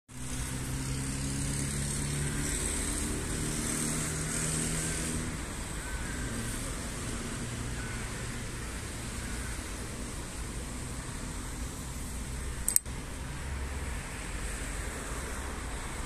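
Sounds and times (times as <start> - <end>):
outdoor background noise: 0.1 - 16.0.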